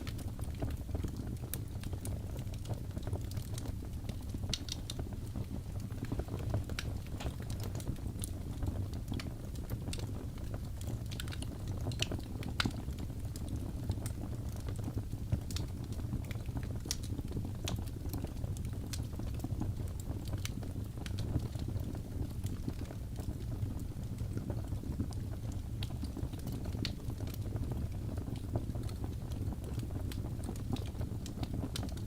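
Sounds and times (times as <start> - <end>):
low rumble of flames: 0.0 - 32.0
wood crackles and pops: 0.0 - 32.0.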